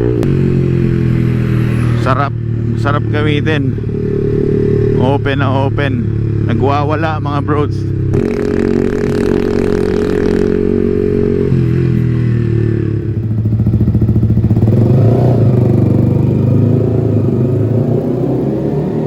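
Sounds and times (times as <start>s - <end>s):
loud motorcycle engine exhaust: 0.0s - 19.0s.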